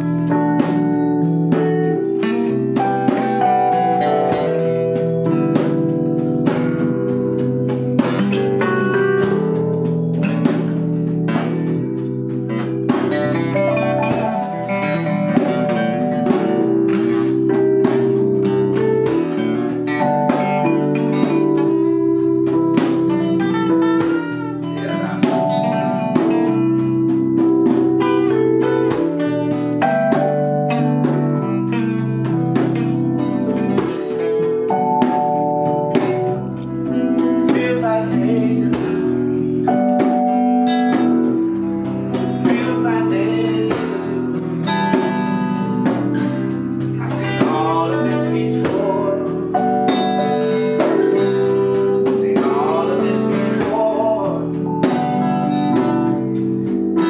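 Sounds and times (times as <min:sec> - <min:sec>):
acoustic guitar: 0:00.0 - 0:57.0
keyboard chords: 0:00.0 - 0:57.0.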